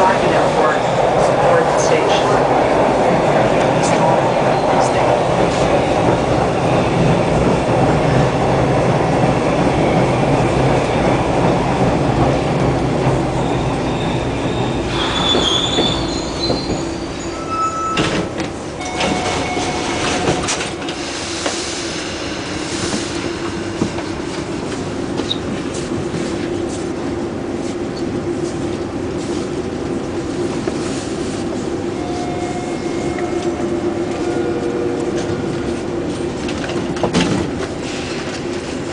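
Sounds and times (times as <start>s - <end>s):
rail clicks: 0.0s - 30.9s, 33.0s - 38.9s
subway wheels rumbling: 0.0s - 38.9s.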